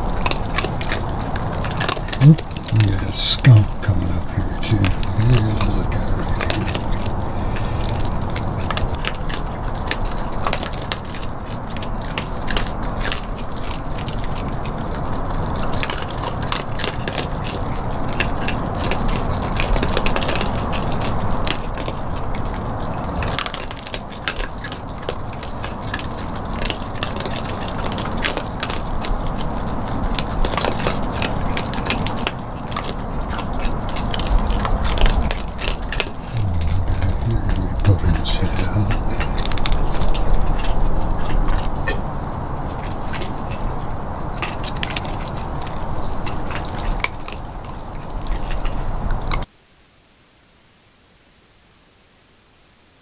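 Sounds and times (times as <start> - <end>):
low background rumble: 0.0 - 16.7, 17.6 - 49.5
animals chewing and crunching food: 0.0 - 49.5.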